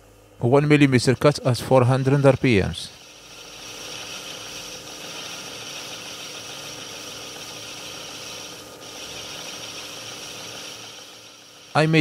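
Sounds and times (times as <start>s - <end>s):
lathe cutting hiss: 0.0s - 12.0s
low machine hum: 0.0s - 12.0s.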